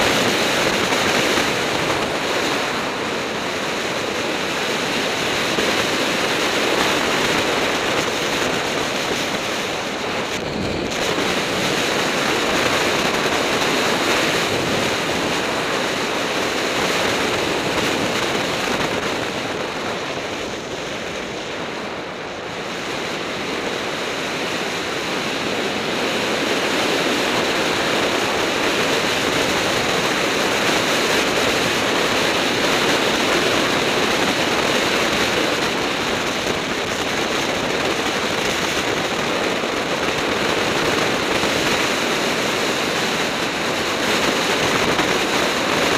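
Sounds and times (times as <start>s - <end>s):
wind roaring over microphone: 0.0s - 45.9s.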